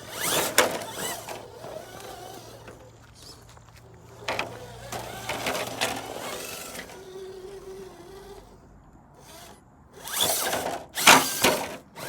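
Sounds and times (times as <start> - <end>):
toy car motor whining: 0.0 - 12.0.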